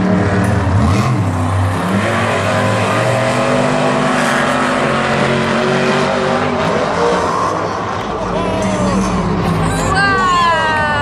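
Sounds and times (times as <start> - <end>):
monster truck engines revving: 0.0 - 11.0.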